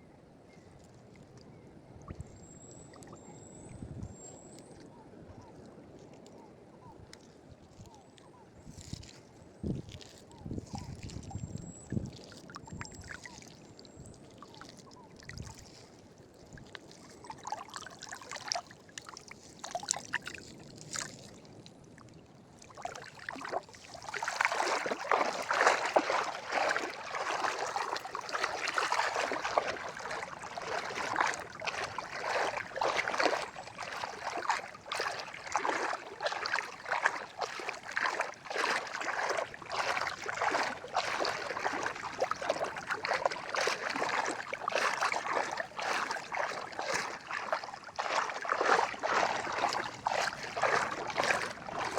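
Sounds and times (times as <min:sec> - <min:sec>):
water splashing and trickling: 0:08.7 - 0:51.9.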